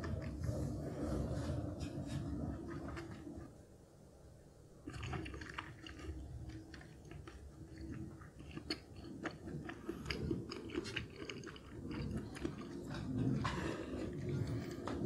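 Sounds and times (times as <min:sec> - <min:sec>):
mouth chewing food: 0:00.0 - 0:03.5, 0:04.8 - 0:15.0.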